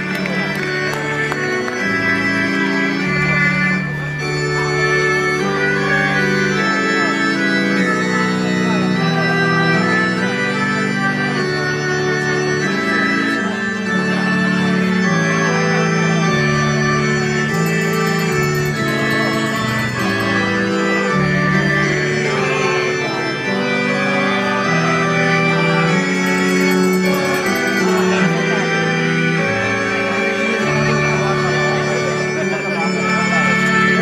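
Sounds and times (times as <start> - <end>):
slow organ-like chords: 0.0 - 34.0.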